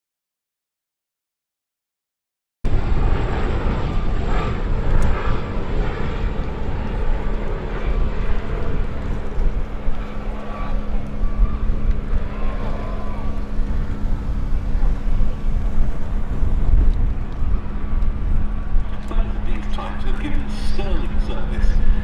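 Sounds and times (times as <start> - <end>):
aircraft engine rumble: 2.7 - 22.0.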